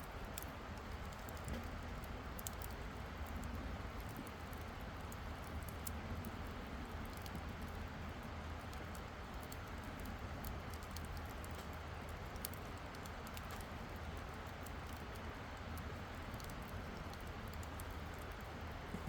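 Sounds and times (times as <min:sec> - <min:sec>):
campfire crackling and popping: 0:00.1 - 0:19.0.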